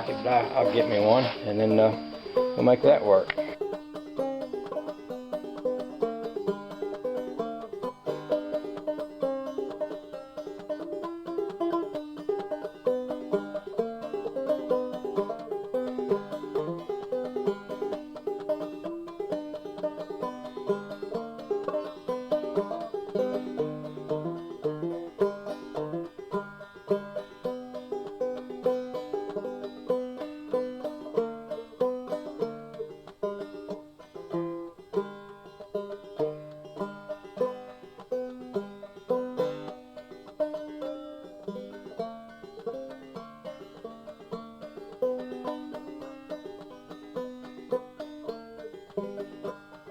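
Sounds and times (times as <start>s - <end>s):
plucked banjo tune: 0.0s - 49.9s.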